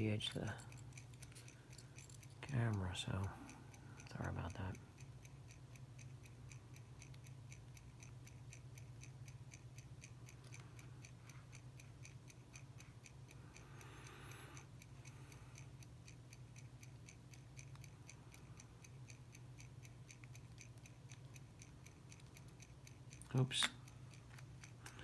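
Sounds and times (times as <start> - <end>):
low steady hum: 0.0 - 25.0
mechanical watch ticking: 0.0 - 25.0.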